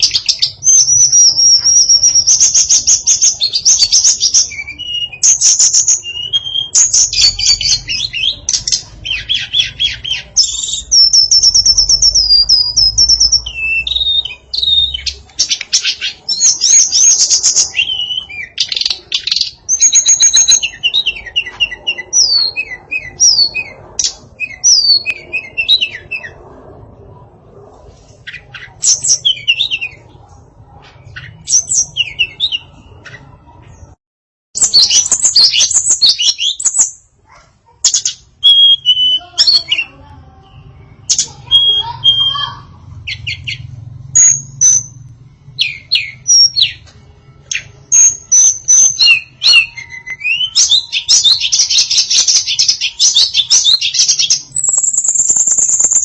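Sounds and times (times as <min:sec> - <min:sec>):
songbird chirping and trilling: 0:00.0 - 0:34.0, 0:34.6 - 0:56.0.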